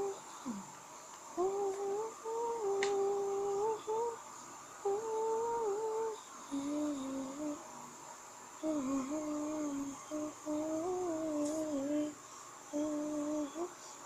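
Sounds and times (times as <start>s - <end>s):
person humming: 0.0s - 0.8s, 1.4s - 4.2s, 4.8s - 7.6s, 8.6s - 14.0s.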